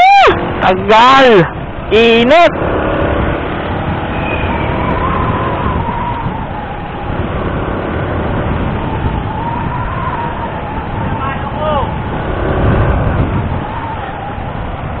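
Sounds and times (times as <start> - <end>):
wind rushing on microphone: 0.0 - 15.0.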